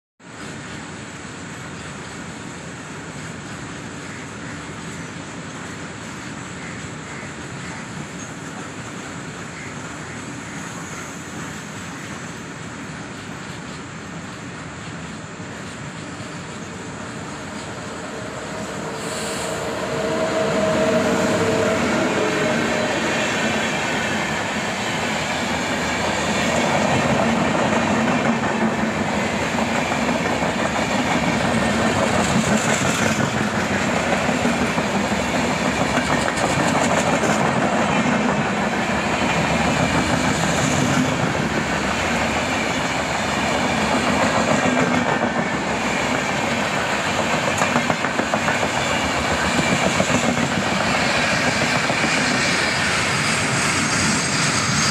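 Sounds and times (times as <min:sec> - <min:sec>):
train rushing roar: 0:00.3 - 0:54.9.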